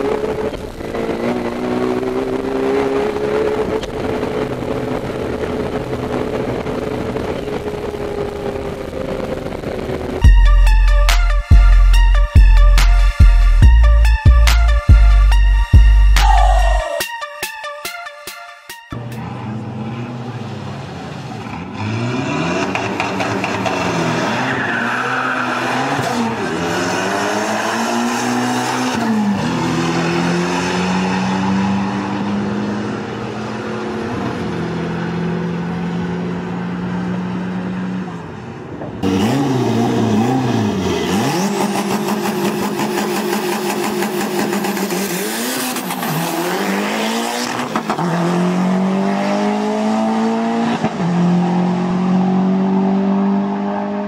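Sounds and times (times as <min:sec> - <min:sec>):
drag car accelerating at full throttle: 0:00.0 - 0:10.2, 0:19.0 - 0:54.0.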